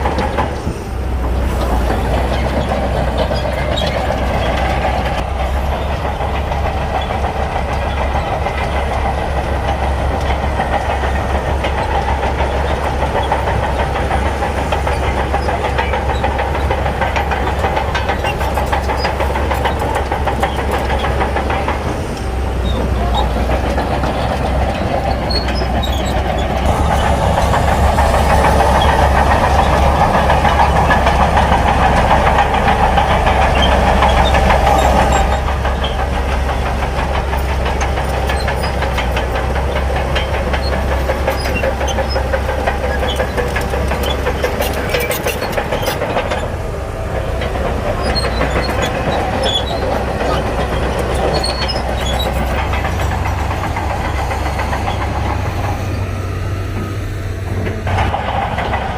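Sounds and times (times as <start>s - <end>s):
bulldozer diesel engine: 0.0s - 58.9s.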